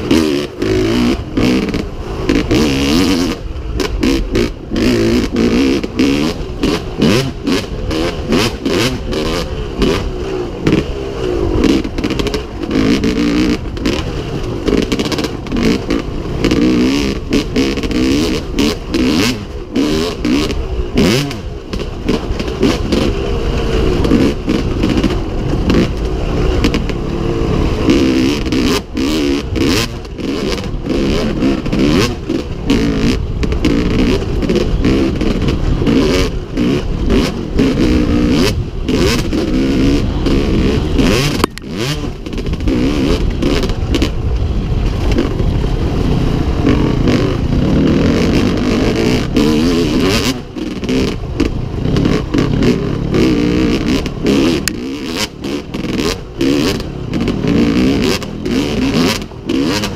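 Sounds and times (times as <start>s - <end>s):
bike clattering over rough track: 0.0s - 59.9s
two-stroke motorcycle engine revving: 0.0s - 59.9s
wind on microphone: 0.0s - 59.9s.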